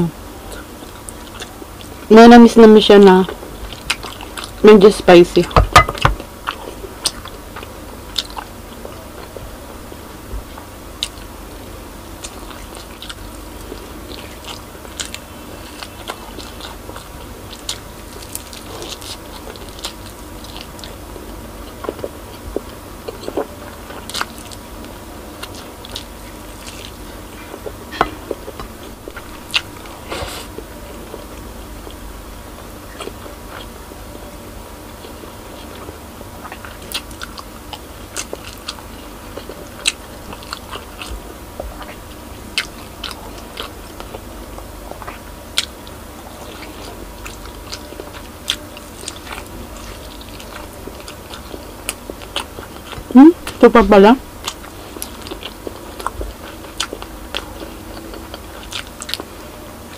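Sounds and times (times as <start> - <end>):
chewing meat with mouth clicks: 0.5 - 2.1, 3.1 - 4.8, 5.4 - 9.4, 10.4 - 33.9, 34.8 - 53.6, 54.2 - 59.9.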